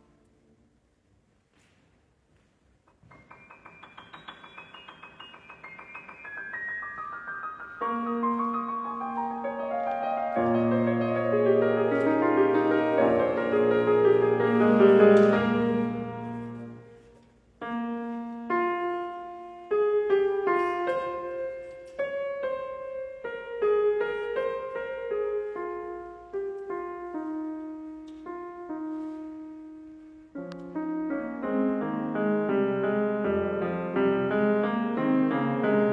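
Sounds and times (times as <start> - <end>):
solo grand piano: 2.9 - 35.9.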